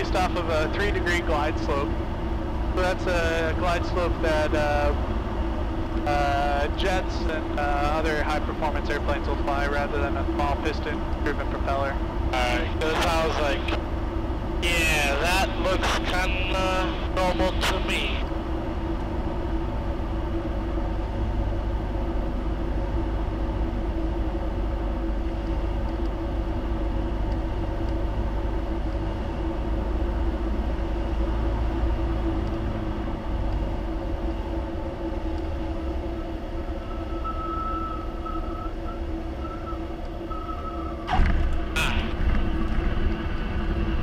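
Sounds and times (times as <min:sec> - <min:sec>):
airplane engine droning: 0:00.0 - 0:44.0.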